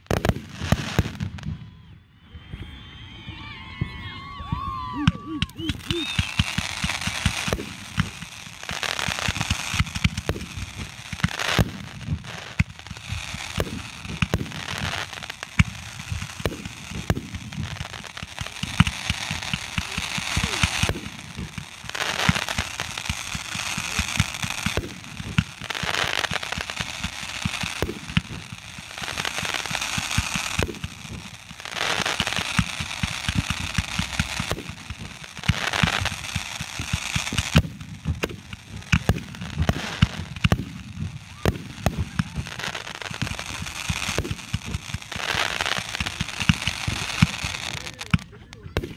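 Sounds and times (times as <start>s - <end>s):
fireworks hissing: 3.0s - 48.9s
crackling pops: 5.0s - 48.9s.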